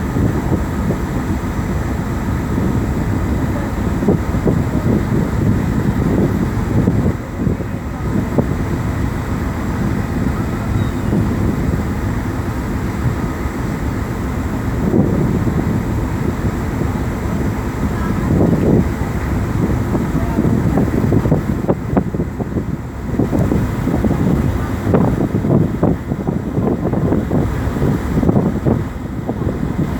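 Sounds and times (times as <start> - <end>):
boat engine rumbling: 0.0 - 29.9
wind buffeting microphone: 0.0 - 29.9.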